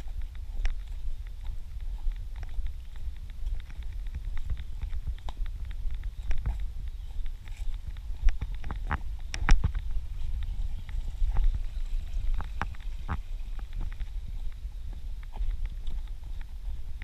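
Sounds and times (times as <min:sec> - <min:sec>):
running footsteps on dirt trail: 0:00.0 - 0:17.0
wind rumble on microphone: 0:00.0 - 0:17.0.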